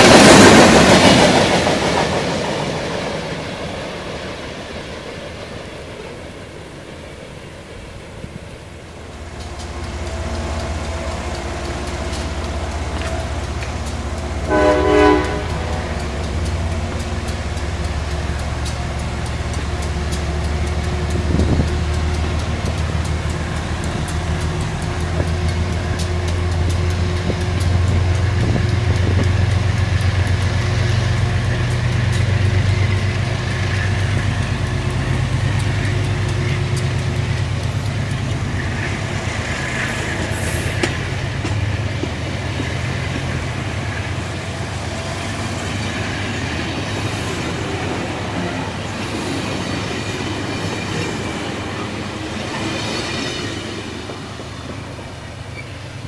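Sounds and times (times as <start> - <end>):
passenger train passing: 0.0 - 56.0
wheels clicking over rail: 8.6 - 56.0.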